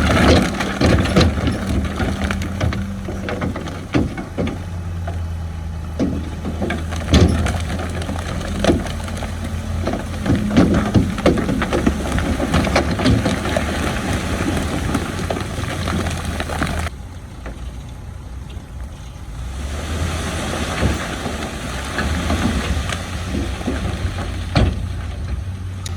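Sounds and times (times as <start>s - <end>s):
machinery rattling and knocking: 0.0s - 17.7s, 20.6s - 25.9s
diesel engine running: 0.0s - 25.9s.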